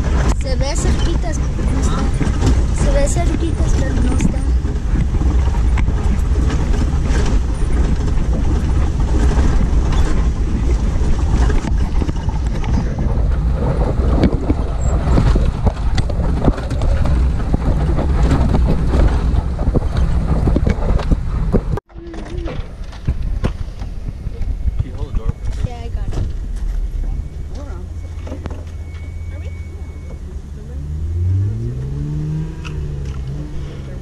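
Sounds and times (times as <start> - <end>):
knocks and rattles: 0.0 - 30.3
vehicle engine and tyre rumble: 0.0 - 34.0
wind buffeting microphone: 0.0 - 34.0.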